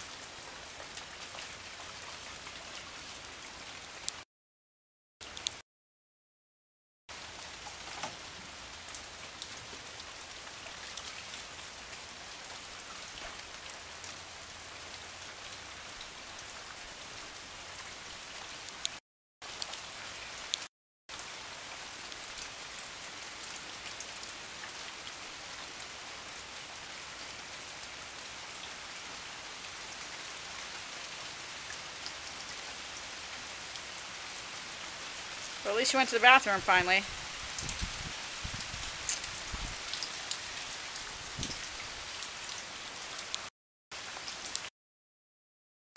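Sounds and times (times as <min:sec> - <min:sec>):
rain falling on puddles: 0:00.0 - 0:04.2, 0:05.2 - 0:05.6, 0:07.1 - 0:44.7.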